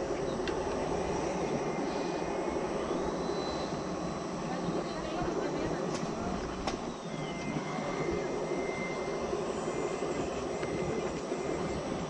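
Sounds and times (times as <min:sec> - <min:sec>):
engine-like drone: 0:00.0 - 0:12.0
thin electric whine: 0:00.0 - 0:12.0.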